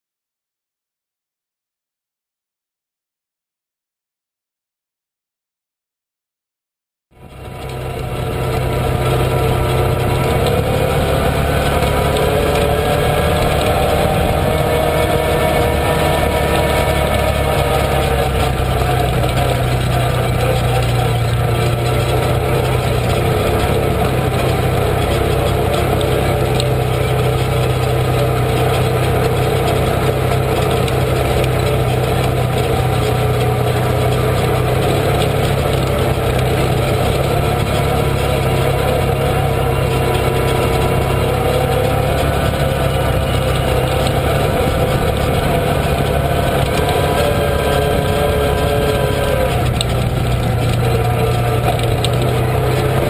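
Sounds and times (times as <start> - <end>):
off-road vehicle engine running: 7.1 - 53.0.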